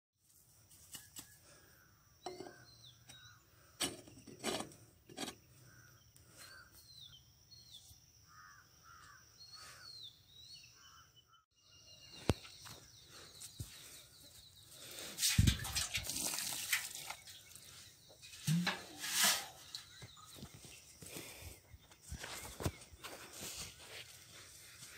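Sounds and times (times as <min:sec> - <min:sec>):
birds calling: 0:01.2 - 0:24.9.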